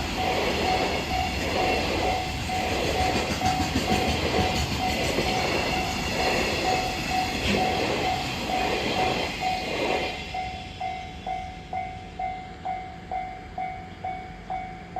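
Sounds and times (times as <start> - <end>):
freight train rumble and wheel clatter: 0.0 - 14.9
level-crossing alarm dinging: 0.0 - 14.9.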